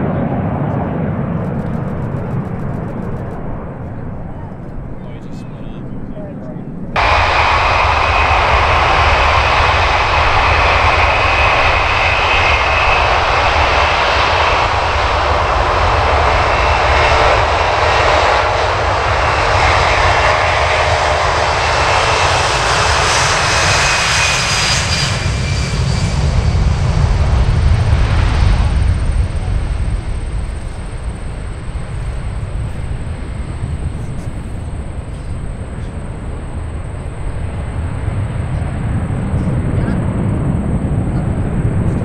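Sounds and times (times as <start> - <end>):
high jet whine: 0.0 - 42.0
jet engine roar: 0.0 - 42.0.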